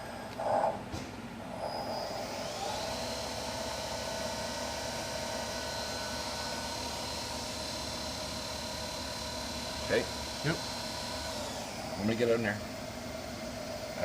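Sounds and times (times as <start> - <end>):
machine running hum: 0.0 - 14.0
machine spindle whine: 1.4 - 14.0.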